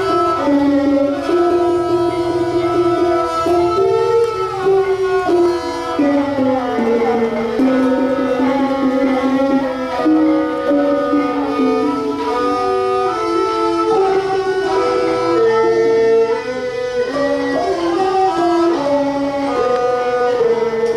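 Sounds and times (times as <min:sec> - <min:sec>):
bowed fiddles: 0:00.0 - 0:20.9.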